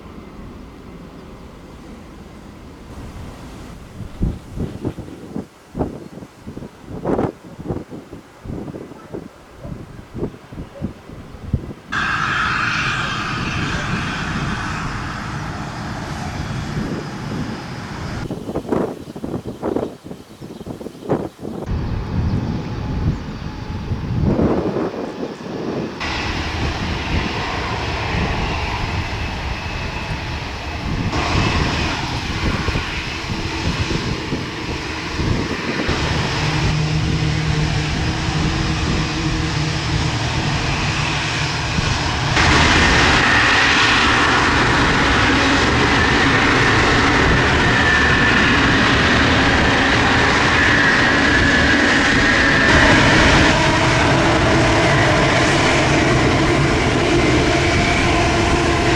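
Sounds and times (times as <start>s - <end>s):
jet engines whining: 0.0s - 20.2s, 20.8s - 58.9s.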